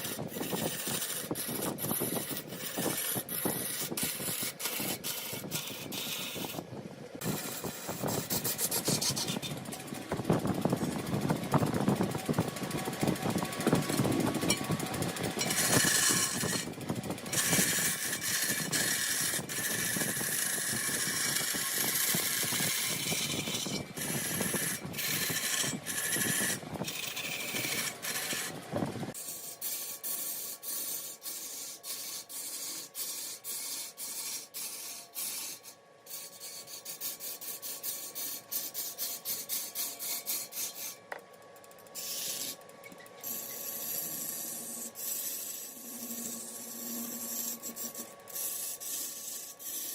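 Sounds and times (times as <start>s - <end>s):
wood lathe cutting: 0.0s - 6.5s, 7.2s - 41.0s, 42.0s - 49.9s
tool scraping wood: 0.0s - 41.3s, 41.9s - 49.9s.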